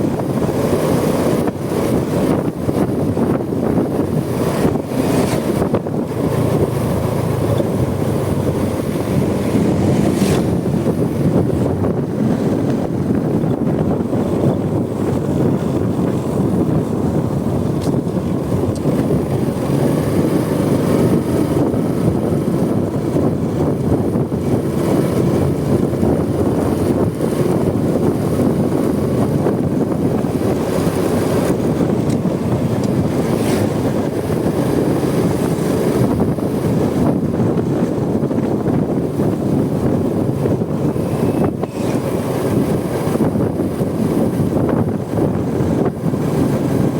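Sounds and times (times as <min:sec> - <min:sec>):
motorcycle engine running: 0:00.0 - 0:46.9
motorcycle road noise: 0:00.0 - 0:46.9
wind rush on microphone: 0:00.0 - 0:46.9.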